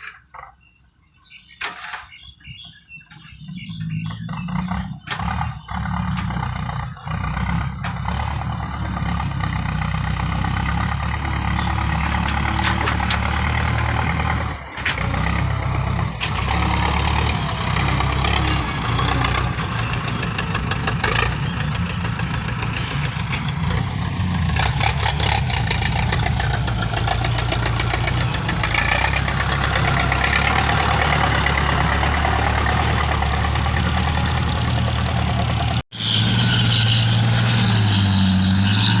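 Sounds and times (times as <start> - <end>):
vehicle engine droning: 2.4 - 39.0.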